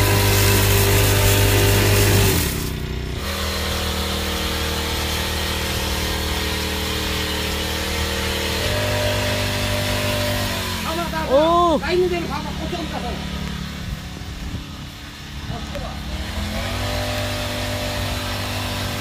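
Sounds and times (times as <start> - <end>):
power sprayer engine running: 0.0 - 19.0
sprayer hiss: 0.0 - 19.0.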